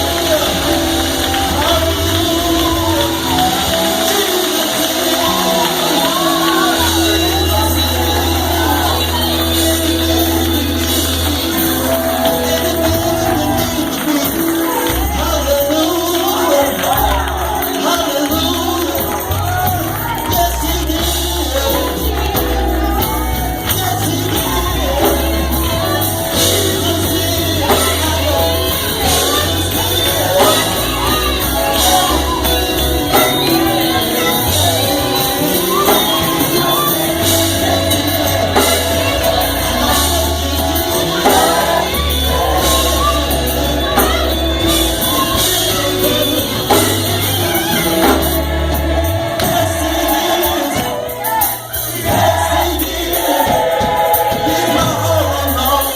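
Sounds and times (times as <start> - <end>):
gospel choir singing: 0.0 - 55.9
heavy bass line: 0.0 - 55.9
percussion: 0.0 - 55.9.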